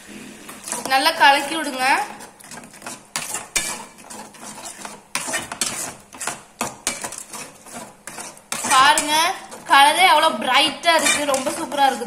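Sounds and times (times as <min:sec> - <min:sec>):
spatula scraping metal pan: 0:00.5 - 0:12.0.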